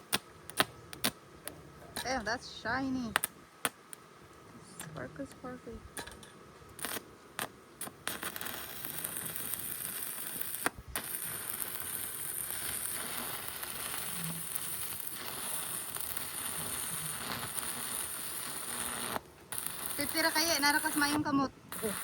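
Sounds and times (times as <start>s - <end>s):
welding arc crackling: 0.0s - 4.0s, 6.0s - 22.0s.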